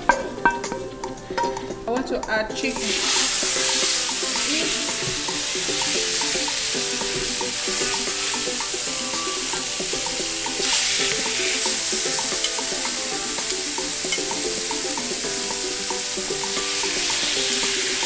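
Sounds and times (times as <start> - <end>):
chicken sizzling in a pan: 2.6 - 18.0.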